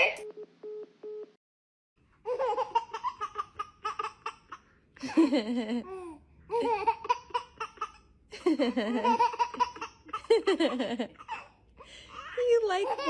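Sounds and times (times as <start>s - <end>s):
baby laughing: 2.2s - 13.0s.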